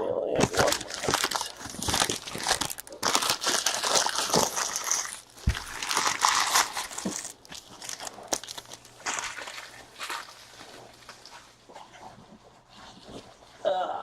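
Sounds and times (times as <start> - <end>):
wrappers crinkling and rustling: 0.4 - 13.4.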